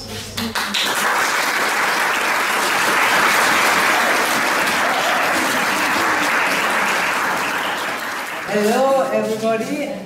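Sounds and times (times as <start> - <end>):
audience applauding: 0.4 - 8.7.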